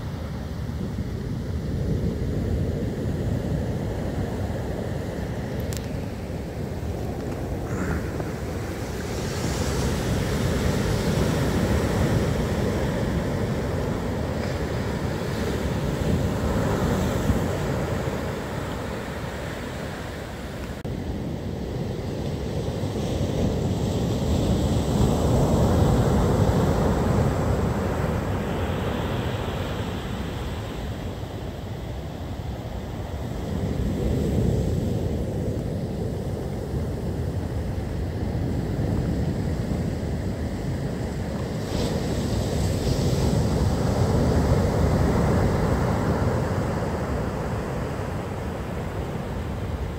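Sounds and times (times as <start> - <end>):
storm surf breaking on beach: 0.0 - 49.9
wind rumbling on microphone: 0.0 - 49.9.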